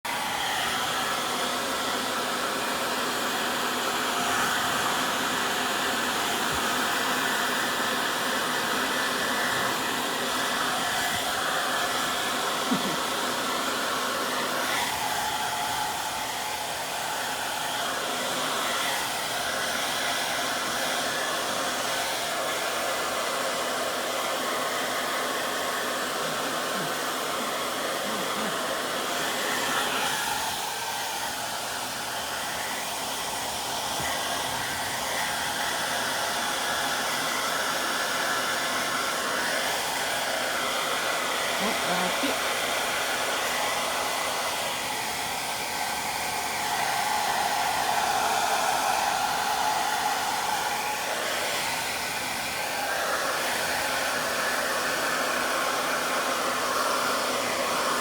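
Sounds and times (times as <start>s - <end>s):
electric blower motor whirring: 0.1s - 58.0s.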